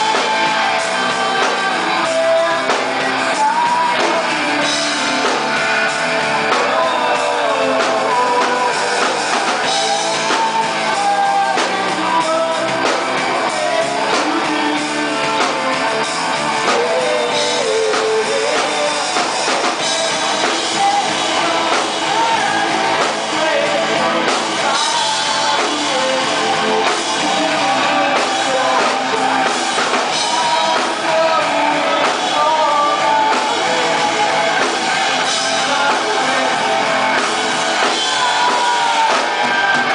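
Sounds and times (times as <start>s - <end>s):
live rock band playing: 0.0s - 39.9s
man singing lead vocal: 0.0s - 39.9s.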